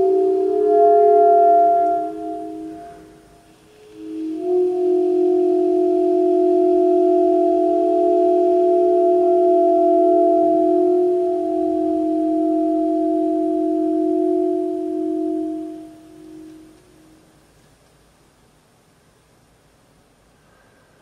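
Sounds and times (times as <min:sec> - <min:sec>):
saxophone and electronics chord: 0:00.0 - 0:17.4.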